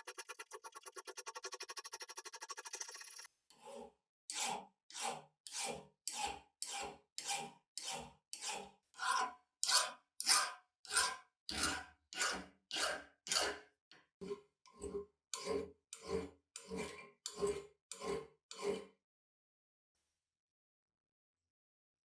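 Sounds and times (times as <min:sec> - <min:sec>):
rasping strokes on rusty metal: 0:00.0 - 0:18.9.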